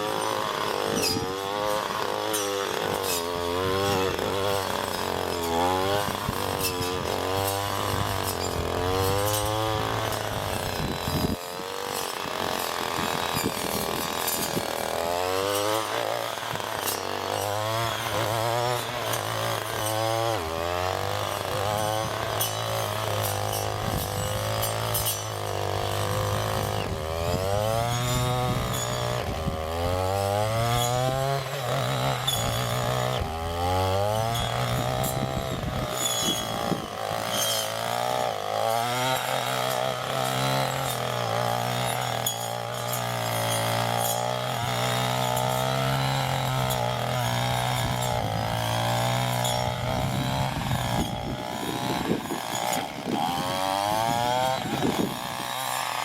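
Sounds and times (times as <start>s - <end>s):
small petrol engine revving: 0.0s - 56.0s.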